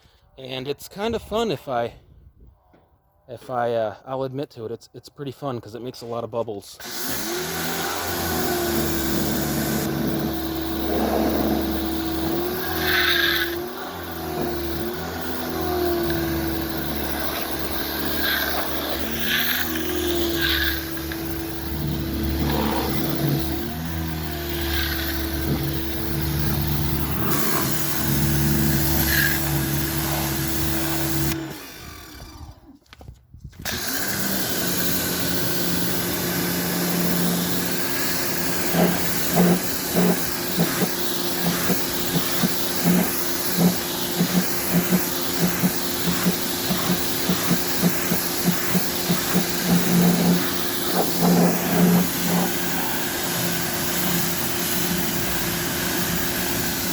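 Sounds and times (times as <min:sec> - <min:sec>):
pressure washer spraying water: 0:06.8 - 0:31.8, 0:33.7 - 0:56.9.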